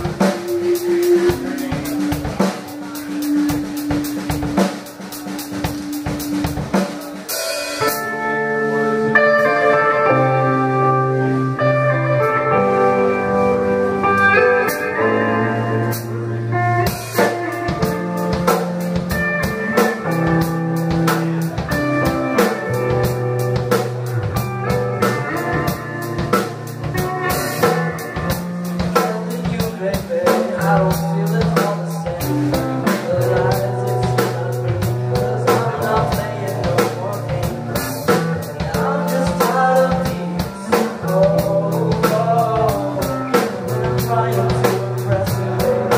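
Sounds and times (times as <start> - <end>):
drum kit steady beat: 0.0 - 9.4, 14.0 - 45.9
sustained guitar and bass notes: 0.0 - 45.9.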